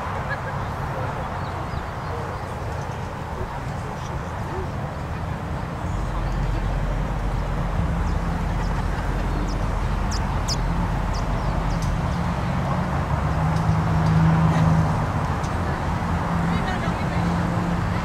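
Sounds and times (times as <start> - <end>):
outdoor background rumble: 0.0 - 18.0.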